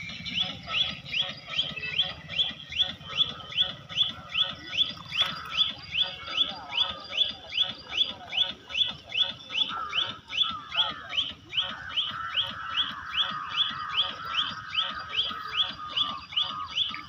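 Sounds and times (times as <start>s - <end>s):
animal chirping: 0.0s - 17.0s.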